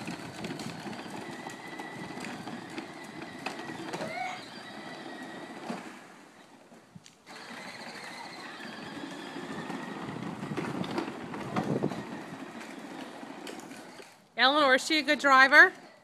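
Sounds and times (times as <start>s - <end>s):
vehicle engine rumble: 0.0s - 14.4s.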